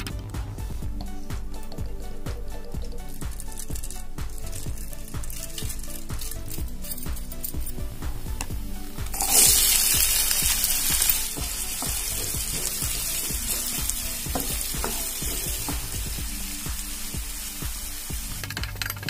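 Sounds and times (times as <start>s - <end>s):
onions sizzling in oil: 3.0s - 18.4s.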